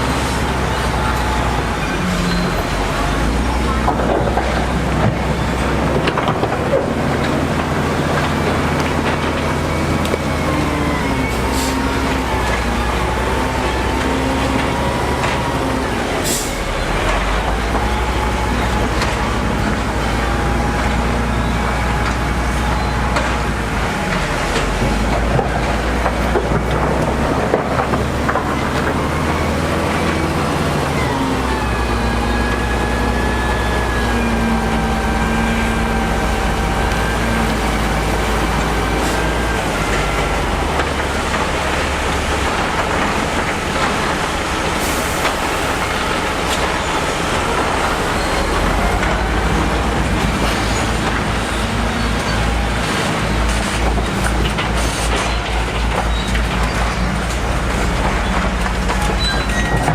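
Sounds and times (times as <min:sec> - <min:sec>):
diesel machinery rumbling: 0:00.0 - 0:59.9
machinery whines: 0:00.0 - 0:59.9.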